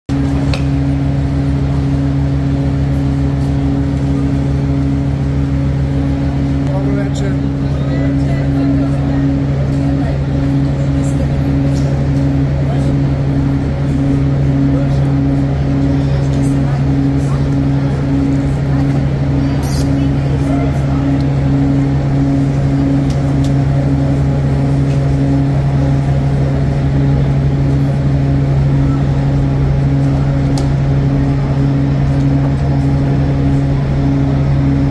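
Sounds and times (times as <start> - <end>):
vehicle engine running: 0.1 - 34.9.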